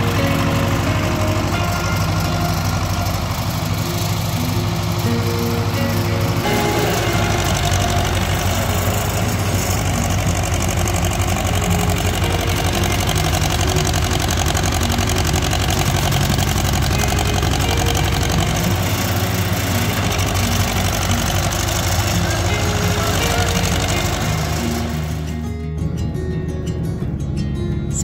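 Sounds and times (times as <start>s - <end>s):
loader bucket dragging dirt: 0.0s - 25.5s
tractor engine running: 0.0s - 28.0s.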